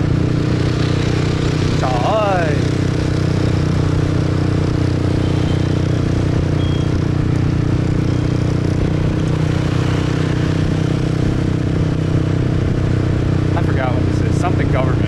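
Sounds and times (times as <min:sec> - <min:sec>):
motorbike engine running: 0:00.0 - 0:15.0
road and traffic noise: 0:00.0 - 0:15.0.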